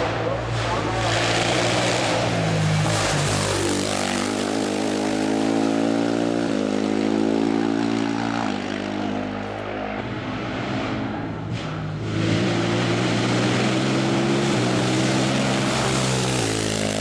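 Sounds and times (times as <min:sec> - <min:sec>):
race car engine passing by: 0:00.0 - 0:17.0.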